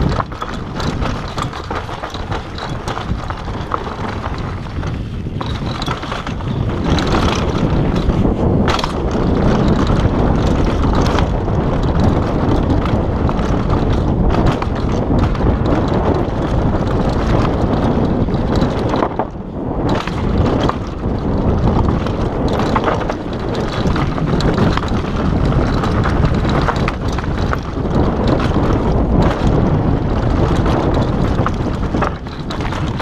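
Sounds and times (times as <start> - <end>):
bike clattering over bumps: 0.0 - 33.0
tyres rolling over dirt: 0.0 - 33.0
wind buffeting microphone: 0.0 - 33.0.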